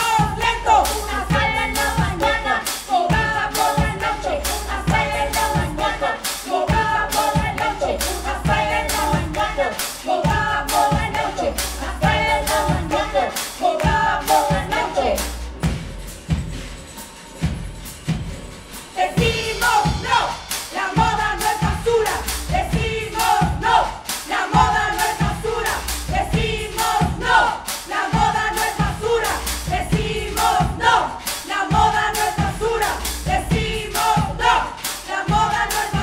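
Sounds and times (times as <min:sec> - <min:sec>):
group of voices chanting: 0:00.0 - 0:15.6, 0:19.0 - 0:36.0
pounding drum beat: 0:00.0 - 0:36.0.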